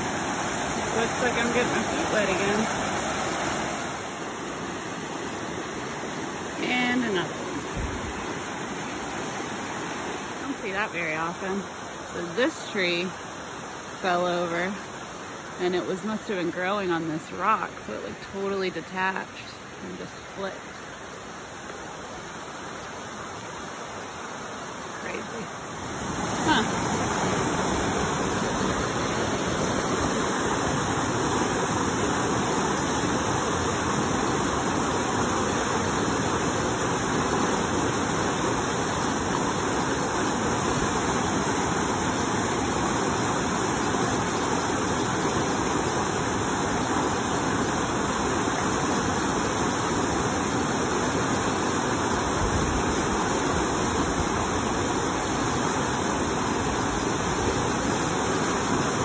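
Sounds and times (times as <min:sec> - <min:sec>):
creek rushing over rocks: 0:00.0 - 0:59.0.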